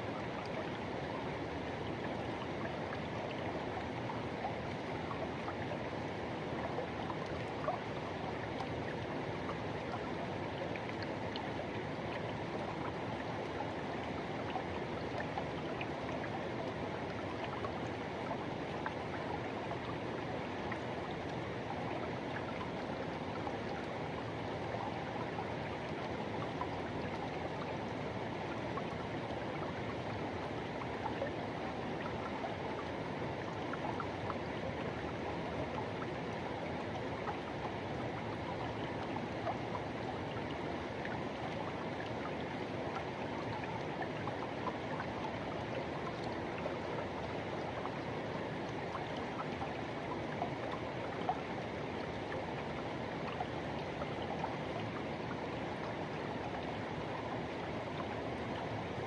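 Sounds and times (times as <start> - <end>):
river water rushing and gurgling: 0.0 - 59.0.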